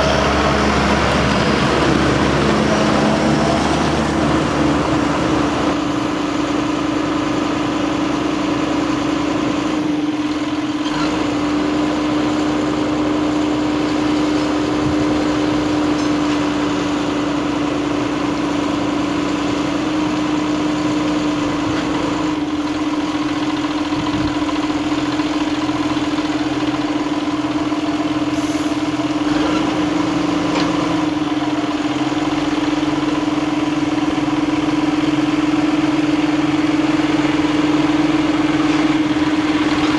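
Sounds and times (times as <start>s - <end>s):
tractor diesel engine drone: 0.0s - 39.9s.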